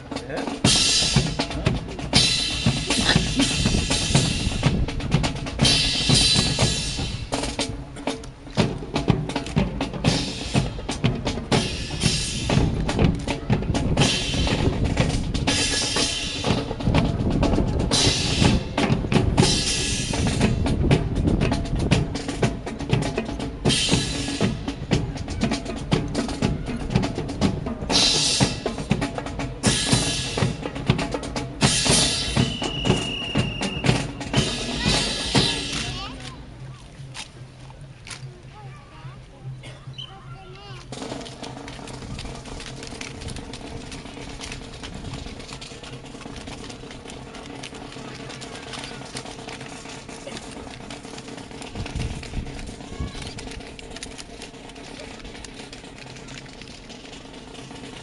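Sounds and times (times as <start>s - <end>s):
snare drum beats: 0.0s - 37.4s, 40.6s - 58.0s
bass drum beats: 0.0s - 58.0s.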